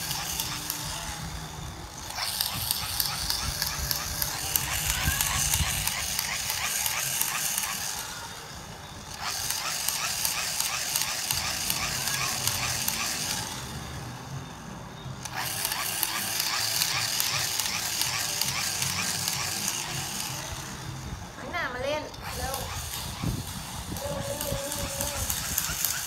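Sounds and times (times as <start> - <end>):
bubble machine whirring: 0.0 - 26.0.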